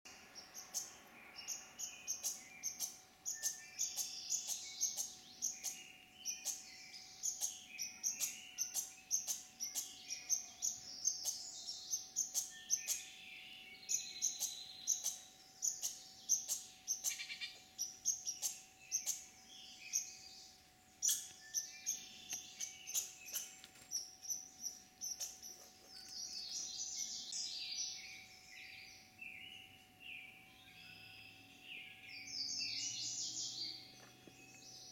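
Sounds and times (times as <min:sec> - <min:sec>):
birds chirping and singing: 0:00.1 - 0:34.9.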